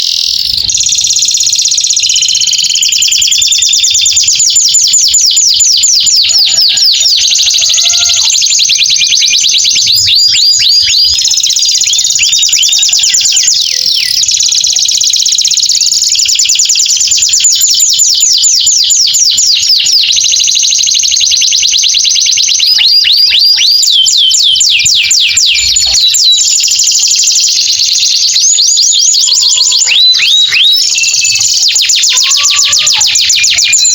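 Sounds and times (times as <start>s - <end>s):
canary singing fast trills: 0.0s - 33.9s.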